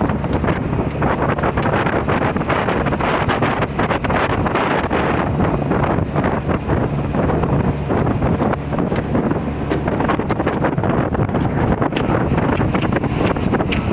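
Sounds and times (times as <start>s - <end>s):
boat engine running: 0.0s - 13.9s
wind buffeting microphone: 0.0s - 13.9s.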